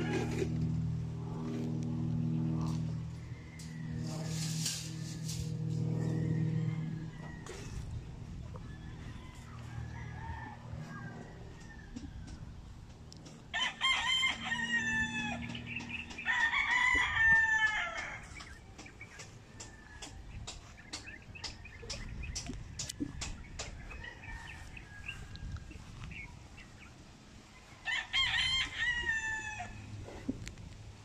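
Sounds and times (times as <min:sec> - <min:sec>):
roosters crowing: 0:00.0 - 0:31.0.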